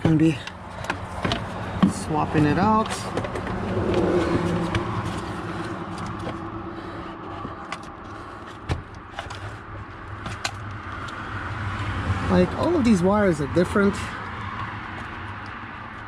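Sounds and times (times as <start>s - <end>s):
motor vehicle running: 0.0s - 16.0s.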